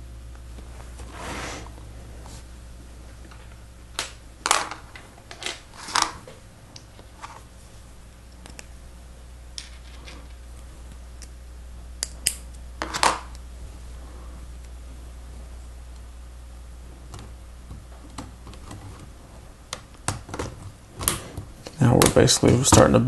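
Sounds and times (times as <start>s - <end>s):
low hum: 0.0s - 22.2s.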